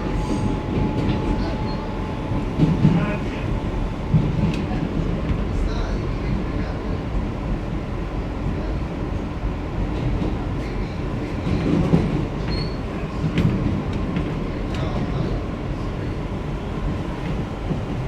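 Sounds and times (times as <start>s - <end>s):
subway wheels and motors rumbling: 0.0s - 18.0s.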